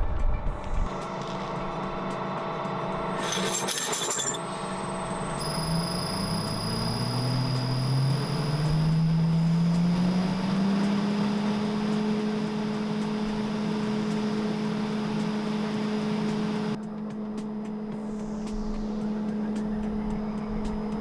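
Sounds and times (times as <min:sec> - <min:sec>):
hammer mill motor hum: 0:00.3 - 0:21.0.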